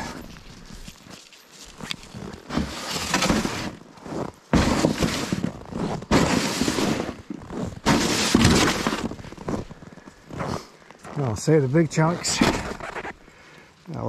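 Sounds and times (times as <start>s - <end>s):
footsteps crunching on snow: 0.0s - 13.3s
plastic sled scraping: 1.8s - 13.3s.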